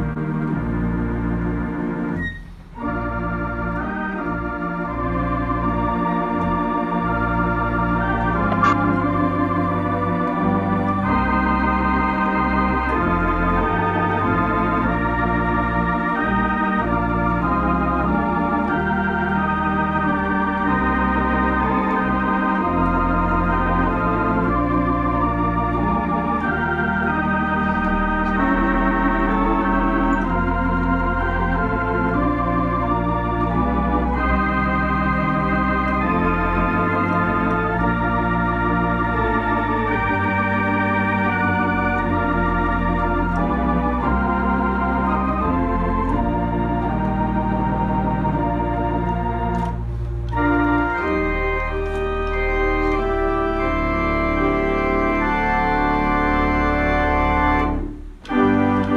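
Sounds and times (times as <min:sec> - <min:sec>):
organ playing chords: 0:00.0 - 0:58.9.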